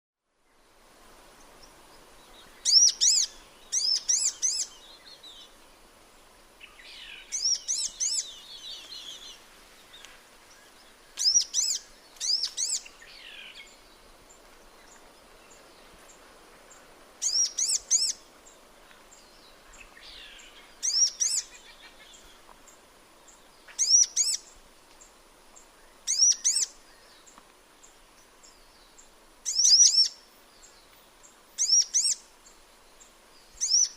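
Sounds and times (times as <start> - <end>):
faint low bird twittering: 1.4 - 5.9, 6.5 - 33.9
sunbird calling: 1.6 - 5.8, 6.6 - 14.1, 14.8 - 22.5, 23.2 - 33.9.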